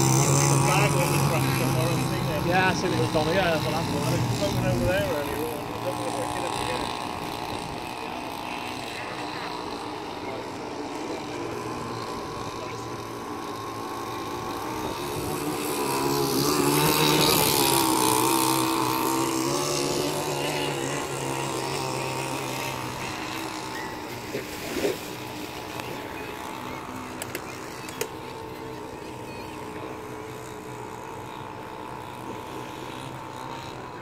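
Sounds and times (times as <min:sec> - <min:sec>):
model powerboat motor running: 0:00.0 - 0:34.0.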